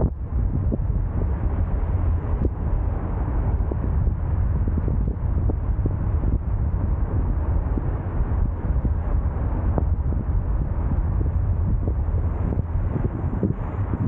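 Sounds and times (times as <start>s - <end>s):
vehicle noise: 0.0s - 14.0s
wind buffeting microphone: 0.0s - 14.0s.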